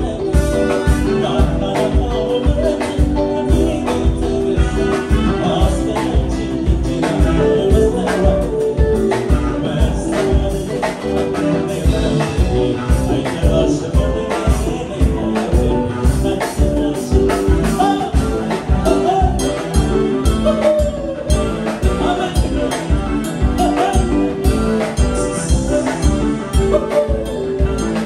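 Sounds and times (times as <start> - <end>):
man singing: 0.0 - 28.0
pop song with steady beat: 0.0 - 28.0.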